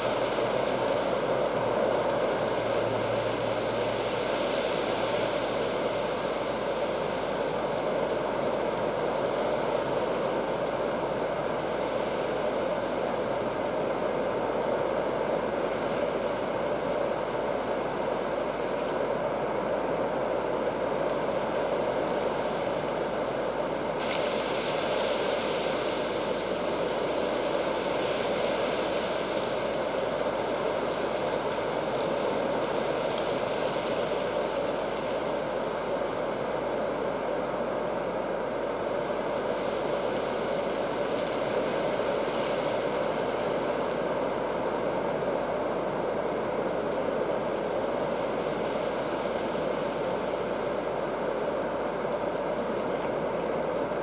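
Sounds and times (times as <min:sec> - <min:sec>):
bright hiss: 0:00.0 - 0:54.0
rain: 0:00.0 - 0:54.0
wind: 0:00.0 - 0:54.0.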